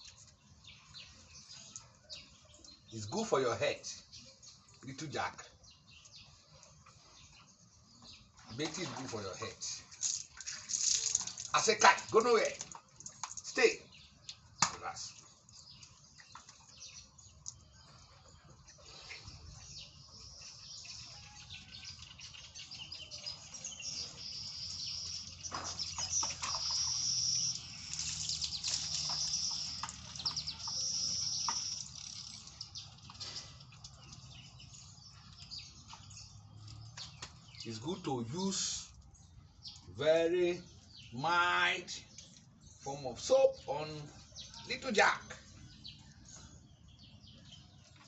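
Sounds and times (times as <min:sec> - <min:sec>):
birds chirping and trilling: 0:00.0 - 0:48.0.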